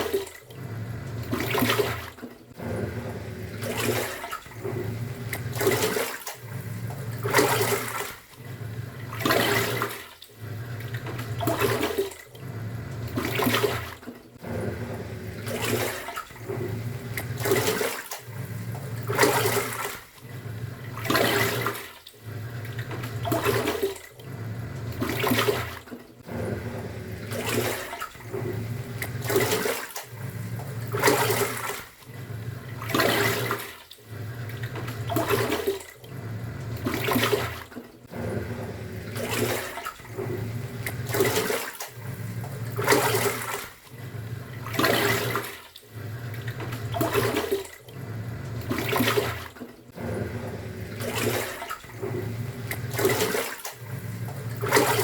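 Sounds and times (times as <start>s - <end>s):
washing machine motor hum: 0.0s - 55.0s
water sloshing in a tub: 0.0s - 55.0s.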